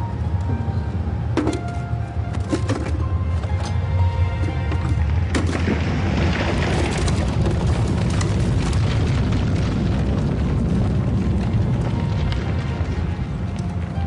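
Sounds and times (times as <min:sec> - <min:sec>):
deep underground rumble: 0:00.0 - 0:14.0
coal and rock clattering: 0:01.4 - 0:14.0.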